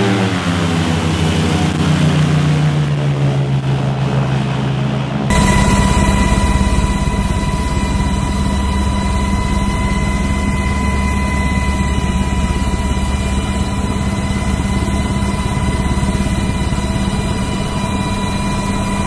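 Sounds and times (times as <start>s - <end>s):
aircraft engine low rumble: 0.0s - 19.0s
engine high whine: 0.0s - 19.0s.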